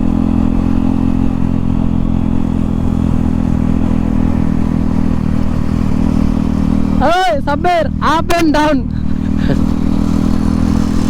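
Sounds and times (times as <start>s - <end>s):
motorcycle engine running without exhaust: 0.0s - 11.0s.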